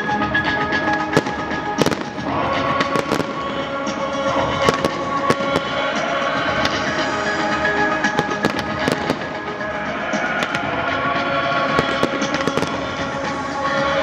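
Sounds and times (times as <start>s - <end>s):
music with held notes: 0.0s - 14.0s
fireworks launches and bursts: 0.8s - 14.0s.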